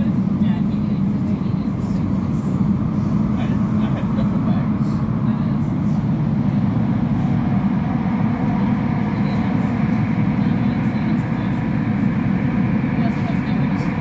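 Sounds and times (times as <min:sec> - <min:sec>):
train rumble in tunnel: 0:00.0 - 0:14.0.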